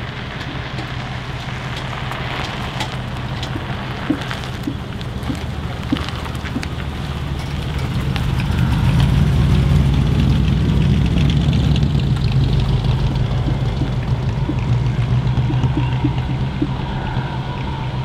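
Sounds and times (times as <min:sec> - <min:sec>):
car engine running low: 0:00.0 - 0:18.0.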